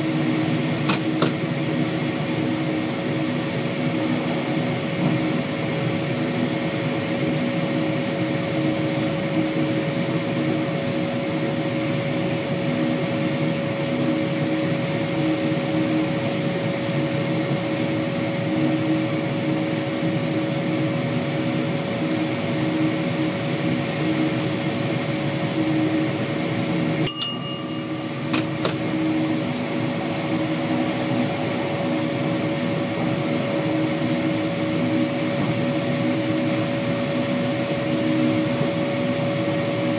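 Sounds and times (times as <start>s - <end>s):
train cab running drone: 0.0s - 39.9s.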